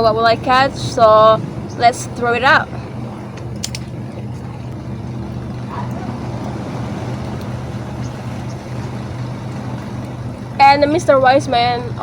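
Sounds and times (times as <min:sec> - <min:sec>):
boat motor droning: 0:00.0 - 0:12.0
sea wash: 0:00.0 - 0:12.0
wind noise: 0:00.0 - 0:12.0.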